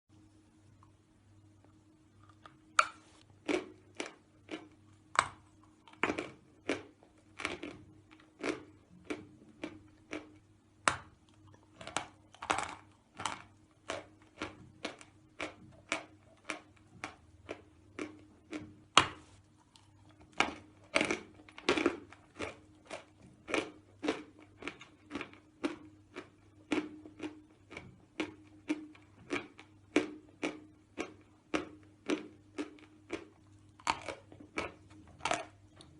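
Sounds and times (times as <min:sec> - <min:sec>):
faint low hum: 0:00.1 - 0:35.9
chalk crunching while chewed: 0:01.6 - 0:35.9.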